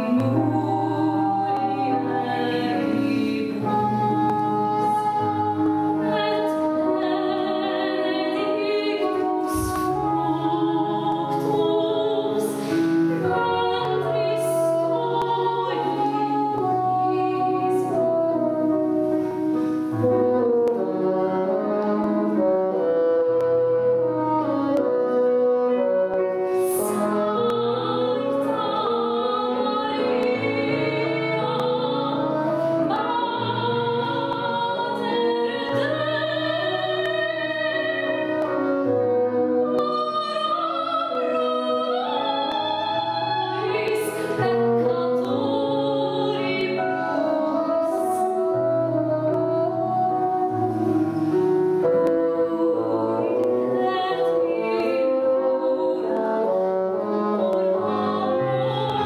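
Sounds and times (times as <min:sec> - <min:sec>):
bassoon low notes: 0:00.0 - 0:59.0
piano accompaniment: 0:00.0 - 0:59.0
woman singing classical: 0:00.0 - 0:59.0.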